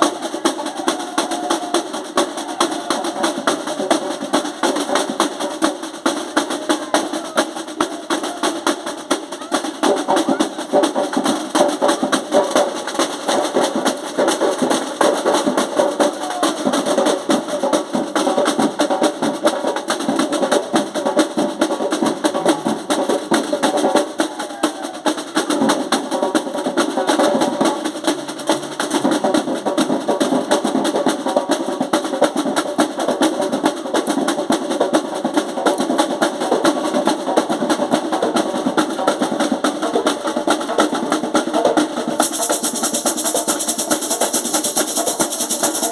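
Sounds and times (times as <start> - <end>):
drum group playing: 0.0 - 45.9.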